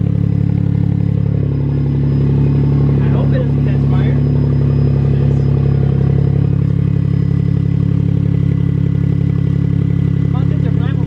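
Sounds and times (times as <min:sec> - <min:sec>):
car engine idling loudly: 0:00.0 - 0:11.0.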